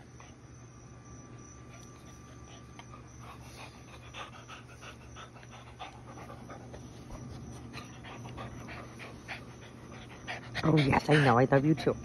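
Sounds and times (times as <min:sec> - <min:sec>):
dog panting: 0:01.7 - 0:12.0.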